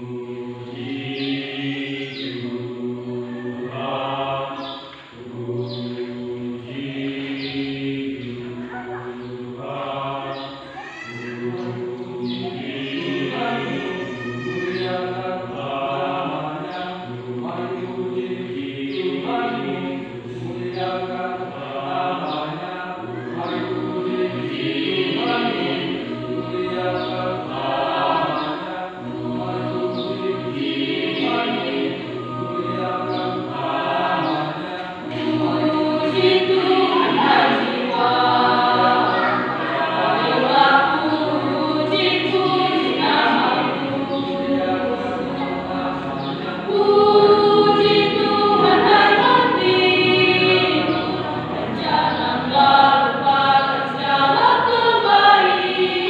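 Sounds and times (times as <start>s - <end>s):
women's choir singing a hymn: 0.0s - 56.0s.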